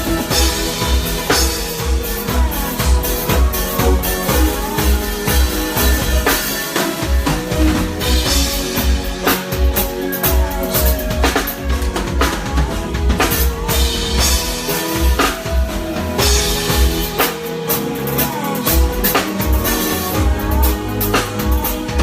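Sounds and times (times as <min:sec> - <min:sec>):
live band playing instrumental: 0:00.0 - 0:22.0.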